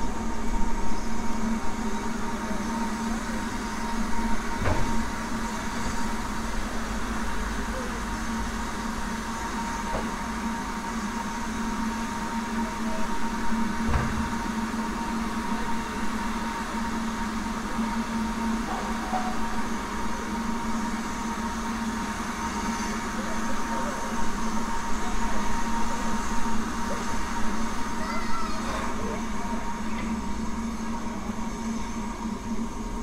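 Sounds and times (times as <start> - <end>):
railway carriage noise and hum: 0.0 - 33.0.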